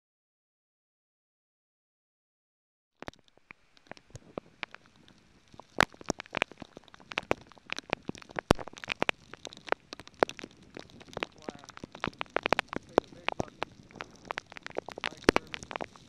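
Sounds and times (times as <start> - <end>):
faint rain hiss: 3.0 - 16.0
raindrops tapping microphone: 3.0 - 16.0.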